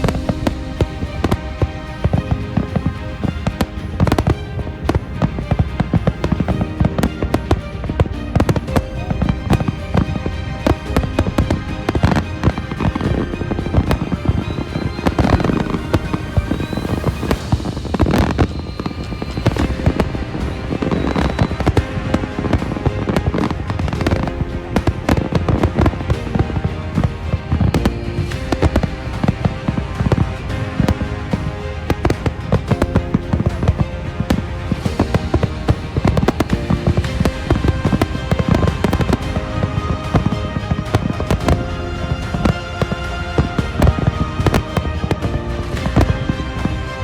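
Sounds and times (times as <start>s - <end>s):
fireworks bangs and crackles: 0.0s - 47.0s
music playing: 0.0s - 47.0s.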